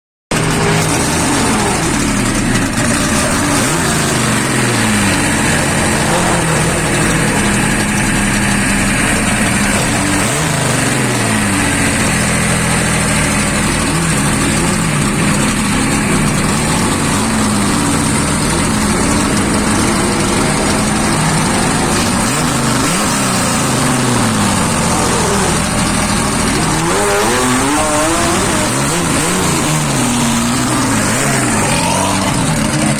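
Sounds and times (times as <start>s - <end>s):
racing car engines accelerating: 0.3s - 32.9s.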